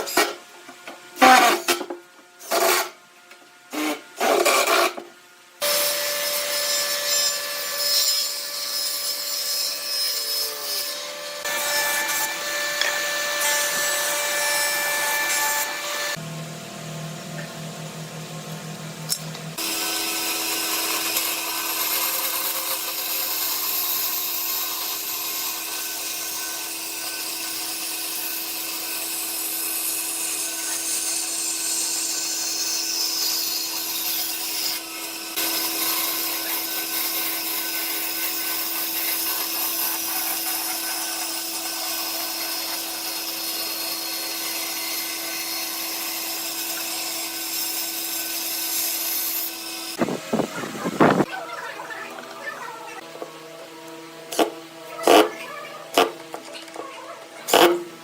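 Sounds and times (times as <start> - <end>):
power tool cutting wood: 1.2 - 3.0, 3.7 - 16.2, 19.1 - 51.3, 51.9 - 58.0.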